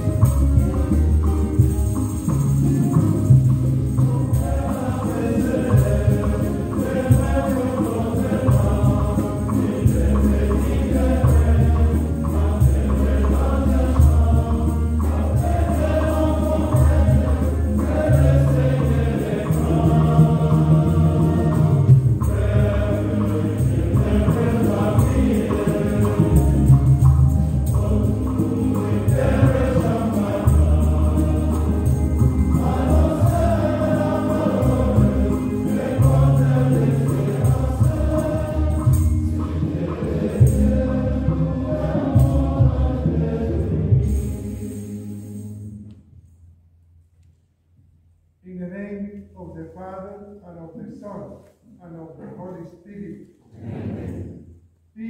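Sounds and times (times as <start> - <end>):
choir singing a hymn: 0.0 - 46.0, 53.4 - 54.6.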